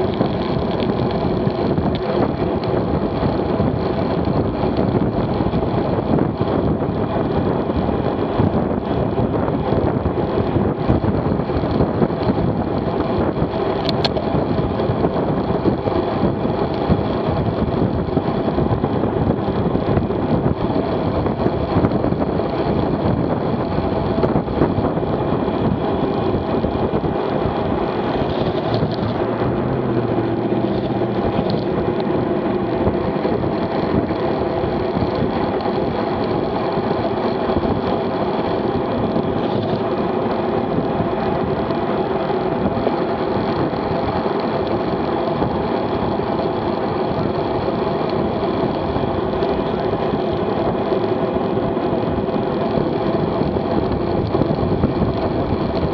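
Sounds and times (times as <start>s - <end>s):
wind rushing: 0.0s - 46.4s
bicycle tyre noise: 0.0s - 55.9s.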